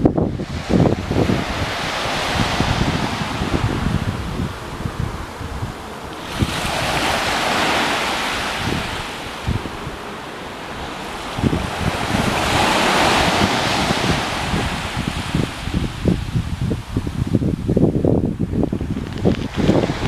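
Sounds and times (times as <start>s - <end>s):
ocean waves breaking: 0.0s - 20.0s
wind buffeting microphone: 0.0s - 20.0s.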